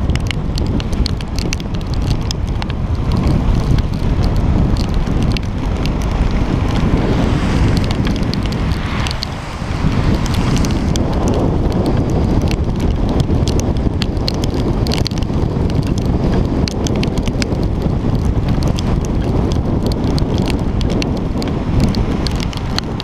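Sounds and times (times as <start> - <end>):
heavy wind rumble: 0.0 - 23.0
raindrops ticking on camera housing: 0.0 - 23.0.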